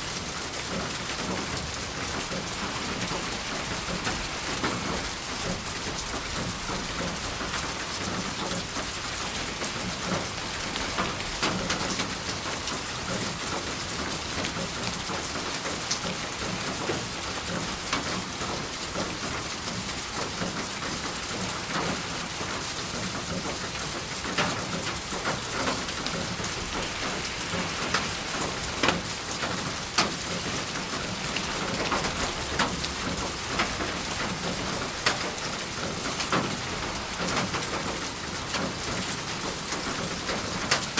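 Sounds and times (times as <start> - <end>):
rain falling: 0.0 - 40.9
raindrops ticking on surface: 0.0 - 40.9.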